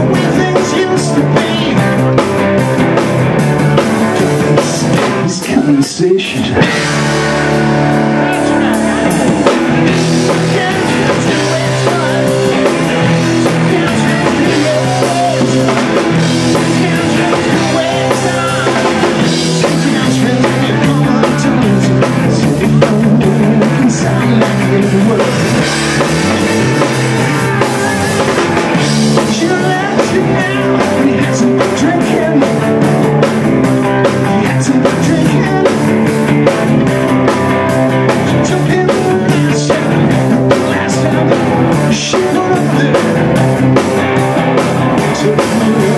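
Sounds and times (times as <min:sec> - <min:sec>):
rock band playing loudly: 0:00.0 - 0:45.9.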